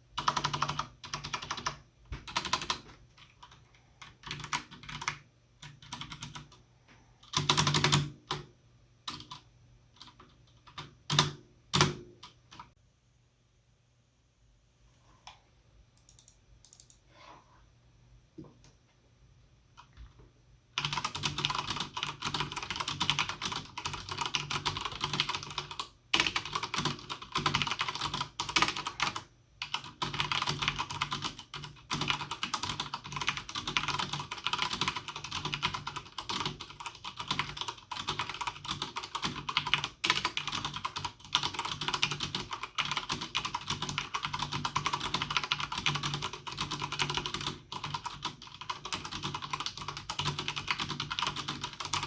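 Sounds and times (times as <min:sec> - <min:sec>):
mechanical keyboard typing: 0:00.2 - 0:06.6, 0:07.2 - 0:08.5, 0:09.1 - 0:12.7, 0:16.0 - 0:17.0, 0:20.8 - 0:52.0.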